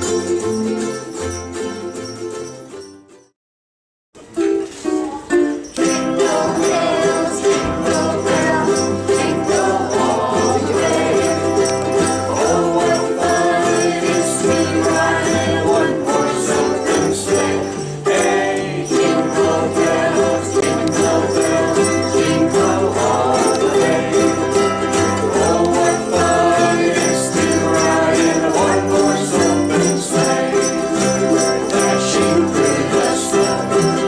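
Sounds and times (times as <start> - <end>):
ukulele group strumming: 0.0 - 3.2, 4.2 - 34.0
jingle bells shaking: 0.0 - 3.3, 4.3 - 34.0
people singing along: 5.8 - 34.0.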